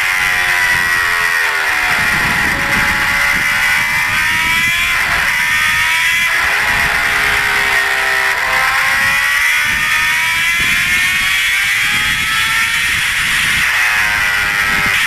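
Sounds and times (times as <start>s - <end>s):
motorcycle engine speeding up: 0.0s - 15.0s
wind and road noise: 0.0s - 15.0s.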